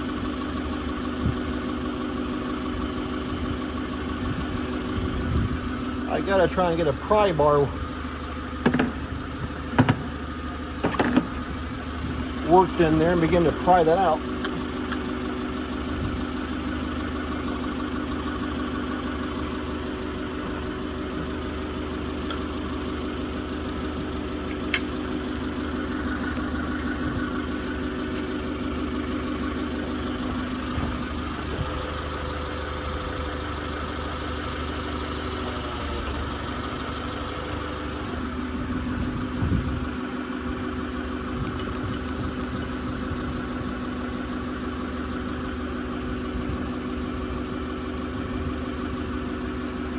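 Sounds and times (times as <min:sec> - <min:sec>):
forklift engine idling: 0:00.0 - 0:49.9.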